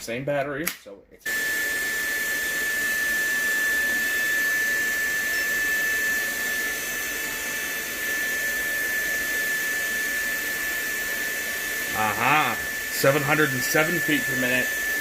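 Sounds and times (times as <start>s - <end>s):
vacuum cleaner whining: 1.2s - 15.0s.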